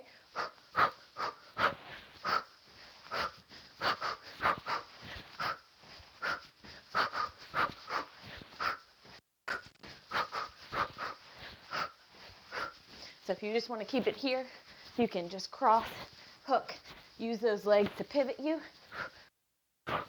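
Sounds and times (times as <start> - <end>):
person breathing forcefully: 0.0 - 13.3, 14.0 - 15.0, 15.8 - 17.2, 18.6 - 19.3.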